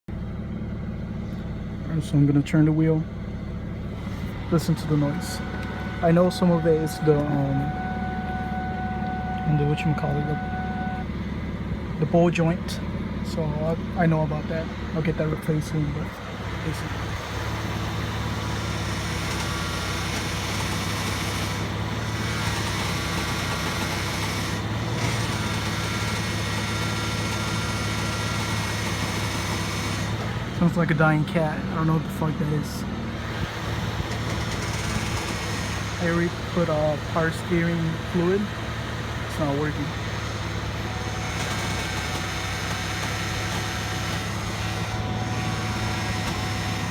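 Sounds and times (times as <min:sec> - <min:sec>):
car engine idling: 0:00.1 - 0:46.9
power steering groaning whine: 0:00.1 - 0:46.9.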